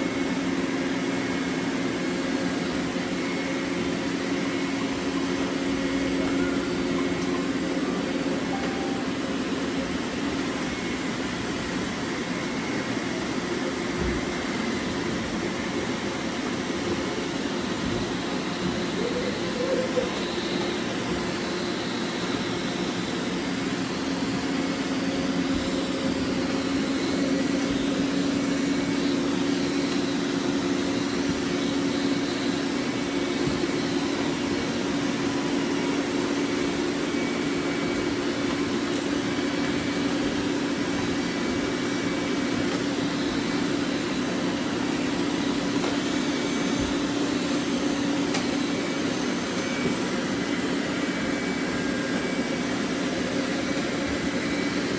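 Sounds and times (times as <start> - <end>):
whir of suction motors: 0.0 - 54.9.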